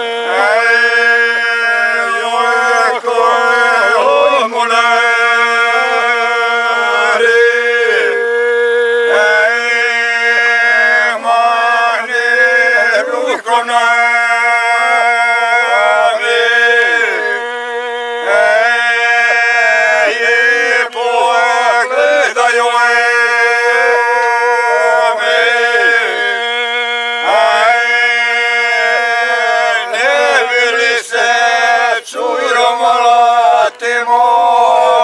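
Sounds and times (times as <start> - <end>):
men singing a cappella: 0.0 - 35.0.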